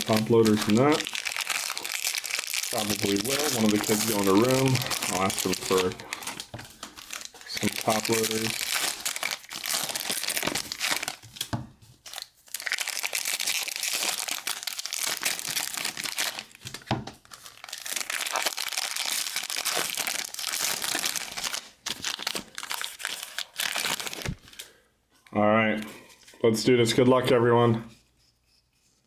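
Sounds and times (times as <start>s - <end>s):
plastic wrappers tearing and crinkling: 0.0s - 24.7s.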